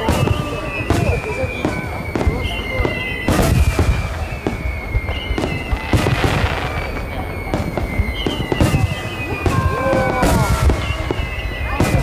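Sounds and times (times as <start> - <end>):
falling whistling tone: 0.0 - 12.0
fireworks booming and crackling: 0.0 - 12.0.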